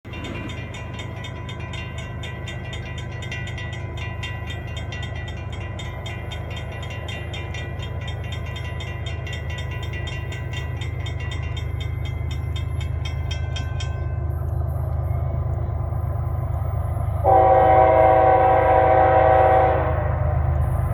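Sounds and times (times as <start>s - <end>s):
diesel locomotive engine rumble: 0.0s - 20.9s.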